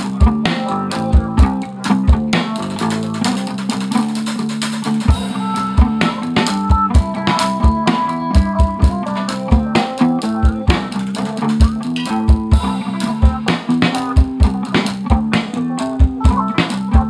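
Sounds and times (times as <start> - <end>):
bass line: 0.0 - 17.0
drum kit groove: 0.0 - 17.0
sustained guitar notes: 0.0 - 17.0.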